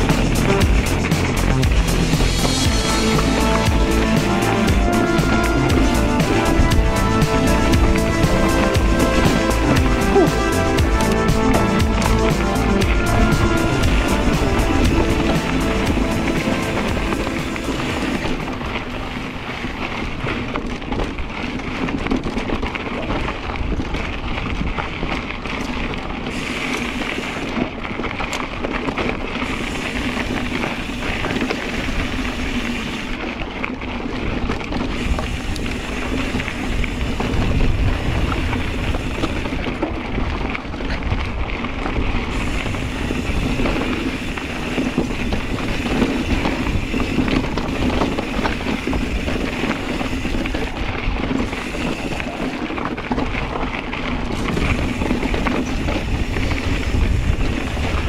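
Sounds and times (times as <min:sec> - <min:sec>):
bike clattering: 0:00.0 - 0:58.0
tyres crunching on gravel: 0:00.0 - 0:58.0
wind buffeting microphone: 0:00.0 - 0:58.0.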